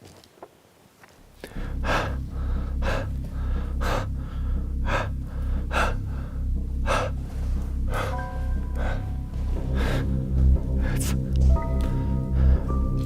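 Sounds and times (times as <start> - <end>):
steady low drone: 1.2 - 13.0
loud gasping breaths: 1.4 - 11.4, 12.0 - 13.0.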